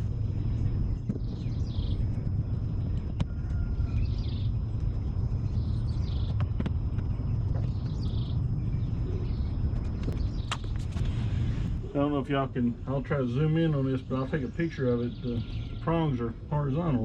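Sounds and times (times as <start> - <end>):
low rumble: 0.0 - 17.0
bird calling: 0.8 - 17.0.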